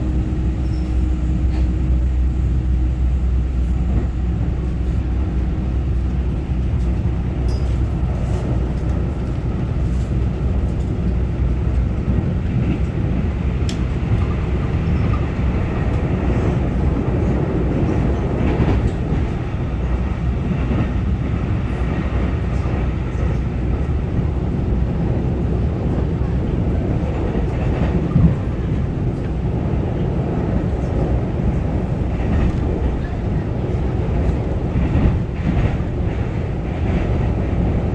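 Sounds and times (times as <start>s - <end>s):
train wheels rumbling on track: 0.0s - 37.9s.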